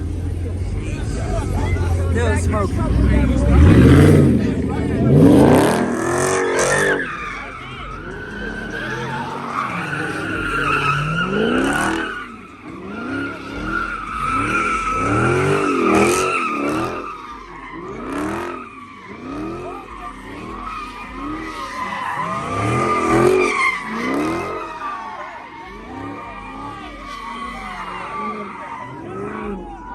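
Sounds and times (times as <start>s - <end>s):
car engine revving: 0.0s - 29.9s
tyres squealing: 1.3s - 29.9s.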